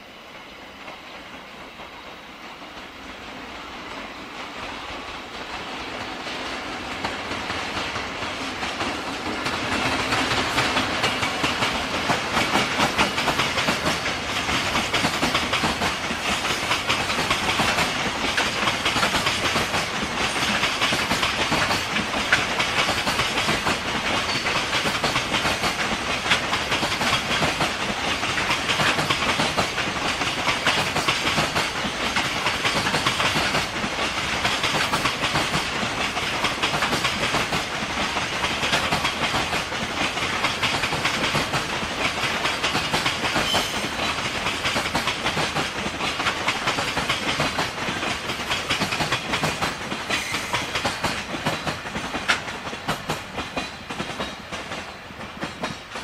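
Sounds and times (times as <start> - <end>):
train wheels clattering over joints: 0.8 - 56.0.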